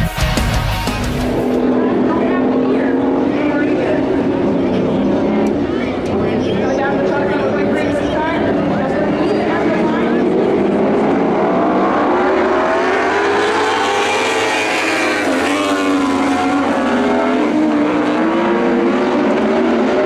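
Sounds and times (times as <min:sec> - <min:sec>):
race car engines revving: 0:00.3 - 0:20.0.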